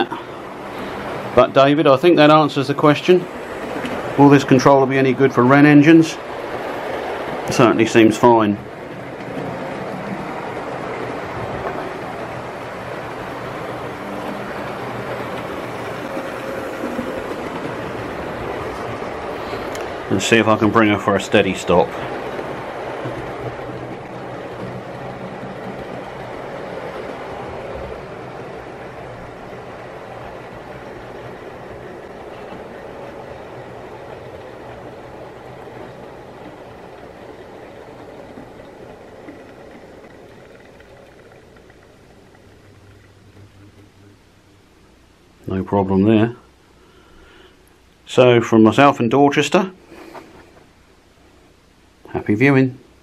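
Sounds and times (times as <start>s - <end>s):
model train wheels on rails: 0.0s - 46.4s
model train motor rumble: 0.5s - 44.1s.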